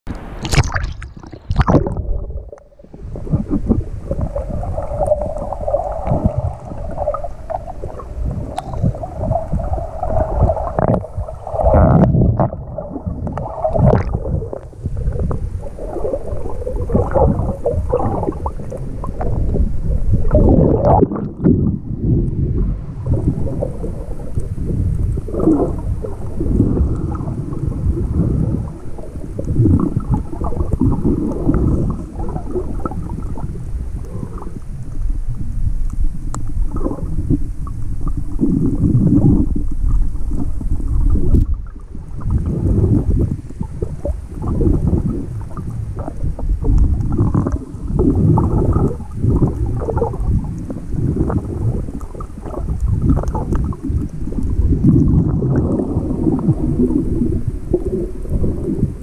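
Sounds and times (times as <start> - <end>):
underwater rumbling and gurgling: 0.1 - 59.0.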